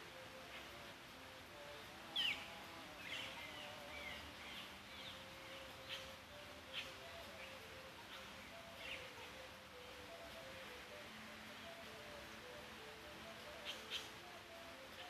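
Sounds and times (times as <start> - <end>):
birds chirping: 0.0 - 15.0
faint steady background hum: 0.0 - 15.0.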